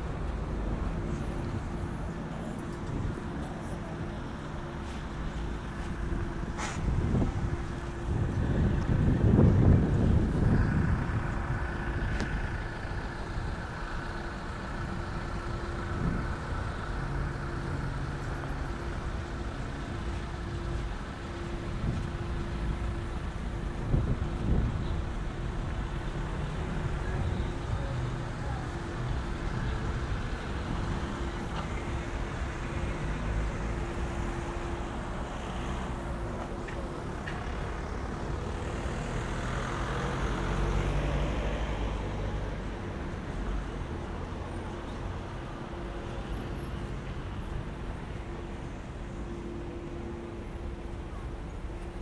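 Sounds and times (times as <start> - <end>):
cars passing: 0.0 - 52.0
steady traffic hum: 0.0 - 52.0.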